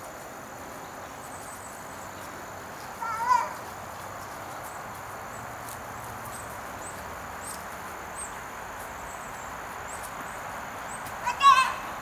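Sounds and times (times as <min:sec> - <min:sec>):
background hiss: 0:00.0 - 0:12.0
insects calling: 0:00.0 - 0:12.0.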